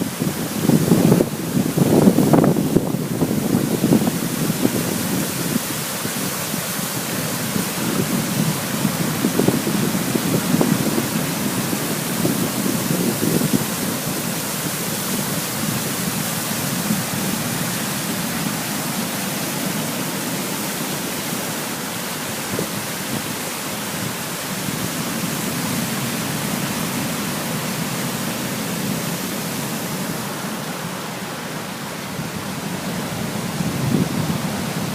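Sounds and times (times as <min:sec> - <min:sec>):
waterfall roar: 0:00.0 - 0:34.9.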